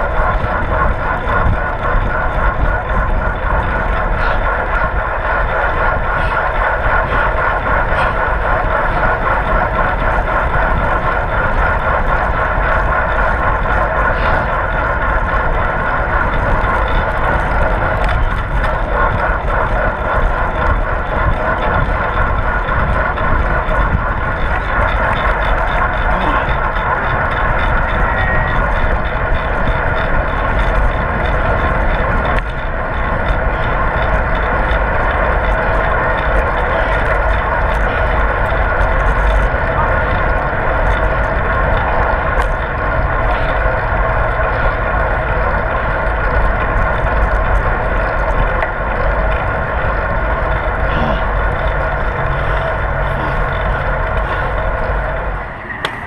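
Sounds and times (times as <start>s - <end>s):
bicycle road noise: 0.0s - 56.0s
wind rush: 0.0s - 56.0s.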